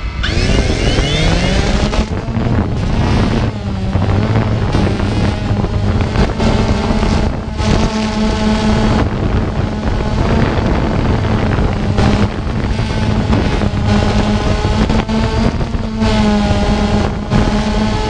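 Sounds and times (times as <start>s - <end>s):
drone propellers buzzing: 0.0s - 18.0s
wind on microphone: 0.0s - 18.0s.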